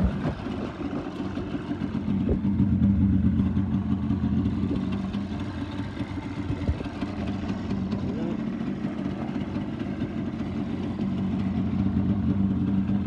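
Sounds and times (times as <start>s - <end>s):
two-stroke engine idling: 0.0s - 13.0s.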